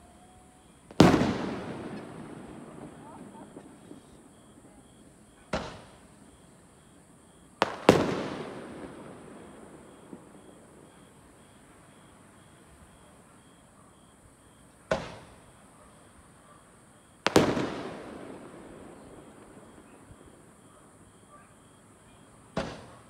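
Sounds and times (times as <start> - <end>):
fireworks bursting: 0.0 - 13.0, 14.9 - 15.5, 17.2 - 21.1, 22.0 - 23.0
fireworks rumble: 0.0 - 13.6, 14.2 - 23.0.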